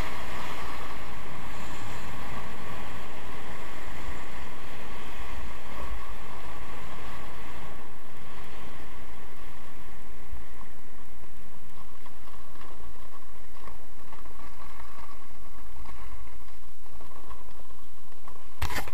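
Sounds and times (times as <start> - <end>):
skis sliding over snow: 0.0 - 18.9
wind rushing on microphone: 0.0 - 18.9.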